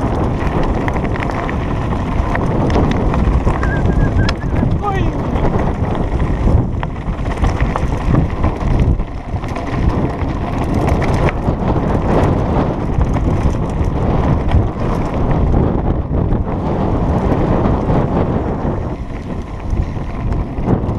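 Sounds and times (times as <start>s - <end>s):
bike clicks and rattles: 0.0s - 20.9s
bike tyres rumbling: 0.0s - 20.9s
wind buffeting microphone: 0.0s - 20.9s.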